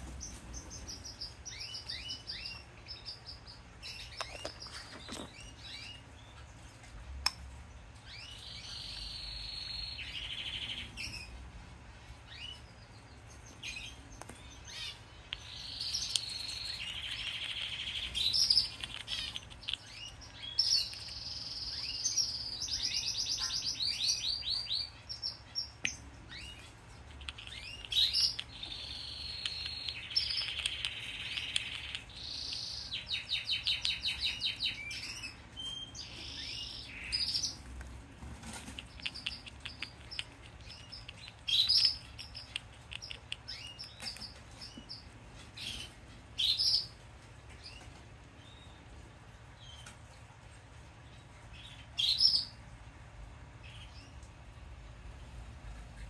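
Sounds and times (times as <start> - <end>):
canary singing trills: 0.0 - 48.9, 51.0 - 52.6.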